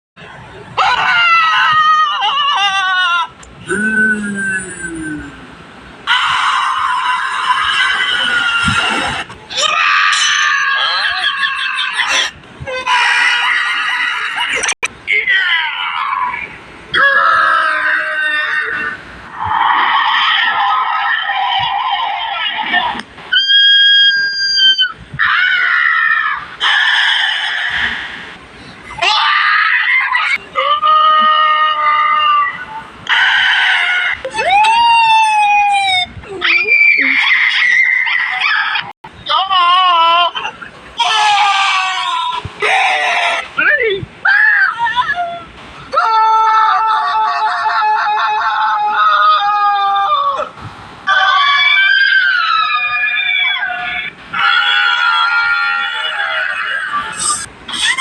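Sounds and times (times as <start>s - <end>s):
cartoon character screams: 0.8s - 5.2s, 6.1s - 22.6s, 23.3s - 27.7s, 29.0s - 38.9s, 39.7s - 43.5s, 44.2s - 50.5s, 51.1s - 58.0s.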